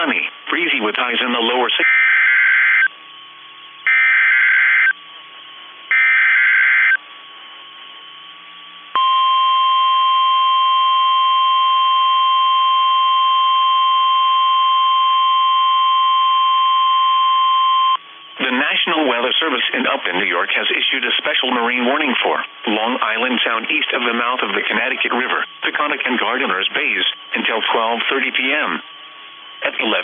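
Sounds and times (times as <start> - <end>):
steady warning alarm tone: 0.0 - 30.0.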